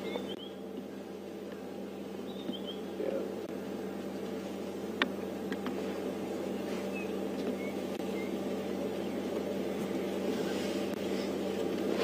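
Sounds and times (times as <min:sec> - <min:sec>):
low background hum of bush: 0:00.0 - 0:12.0.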